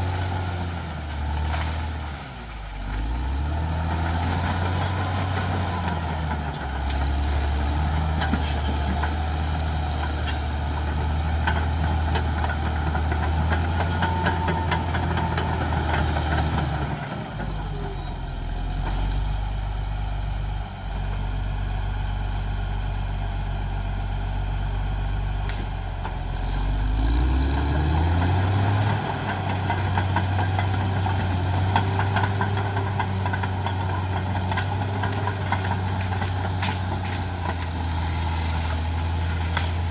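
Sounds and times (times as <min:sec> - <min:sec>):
bulldozer diesel engine revving: 0:00.0 - 0:39.9.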